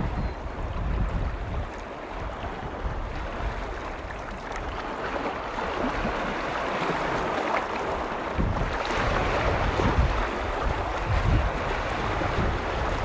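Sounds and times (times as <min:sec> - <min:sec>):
waves washing against shore: 0:00.0 - 0:13.0
wind rumbling on microphone: 0:00.0 - 0:13.0.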